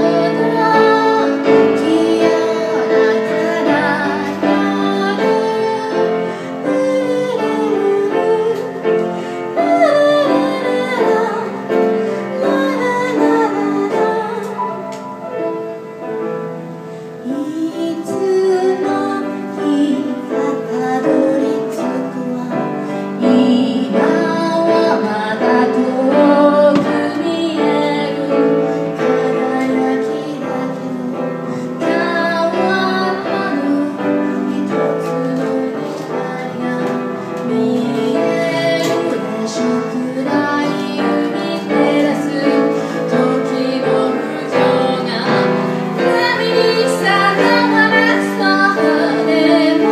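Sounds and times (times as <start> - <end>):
woman singing: 0.0 - 15.0, 17.2 - 49.9
grand piano: 0.0 - 49.9.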